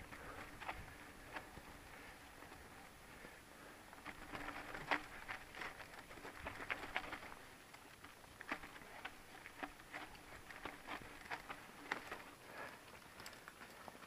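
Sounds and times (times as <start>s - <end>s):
mountain bike rattling: 0.0s - 14.0s
tyres crunching over rocky dirt: 0.0s - 14.0s.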